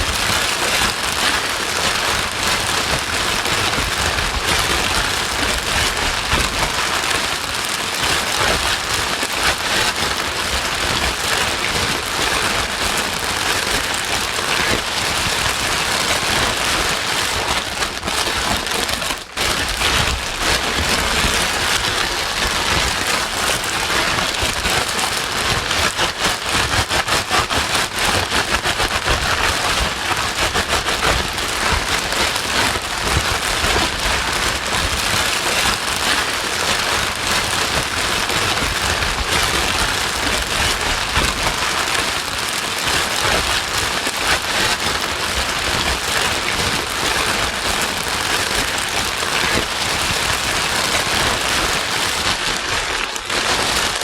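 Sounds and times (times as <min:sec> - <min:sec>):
loud steady white noise: 0:00.0 - 0:54.0.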